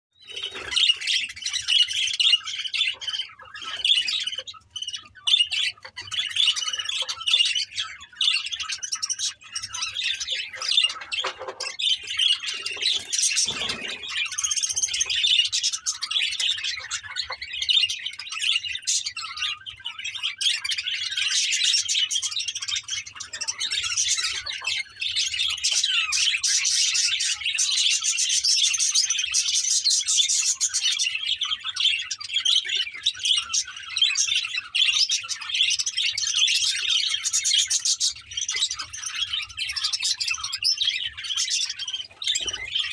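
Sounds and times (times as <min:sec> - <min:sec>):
budgerigars chattering: 0:00.2 - 0:42.9.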